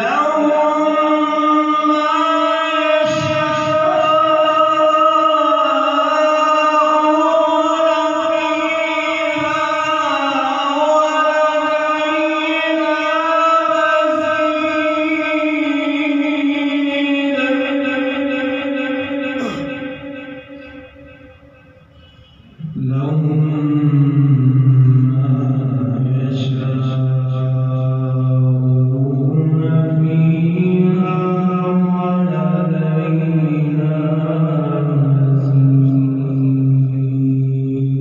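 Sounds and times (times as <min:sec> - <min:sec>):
man chanting into a microphone: 0:00.0 - 0:21.3, 0:22.0 - 0:38.0.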